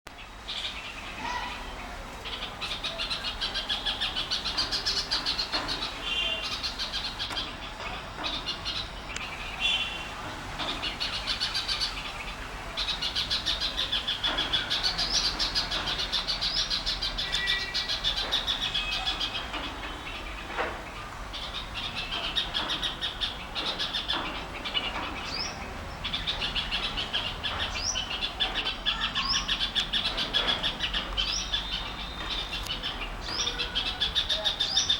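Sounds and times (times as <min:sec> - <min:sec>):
flock of small birds chirping: 0:00.1 - 0:34.9.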